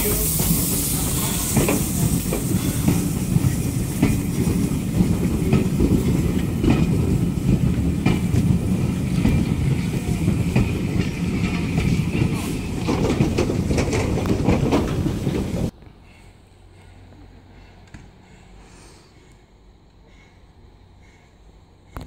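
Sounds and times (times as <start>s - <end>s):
wheels clicking over rail joints: 0.0s - 18.6s
railway carriages rumbling: 0.0s - 22.0s.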